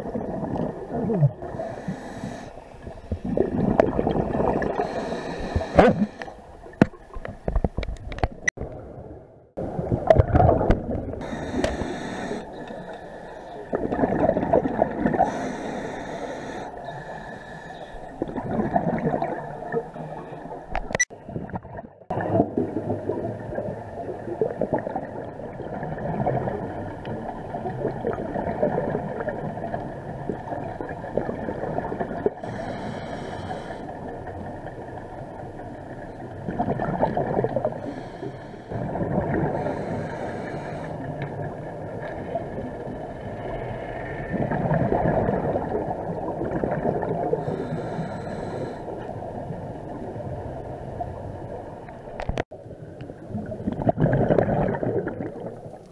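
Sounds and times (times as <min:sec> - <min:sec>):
scuba exhaust bubbles: 0:00.0 - 0:08.9, 0:09.6 - 0:55.9
muffled underwater rushing: 0:00.0 - 0:55.9.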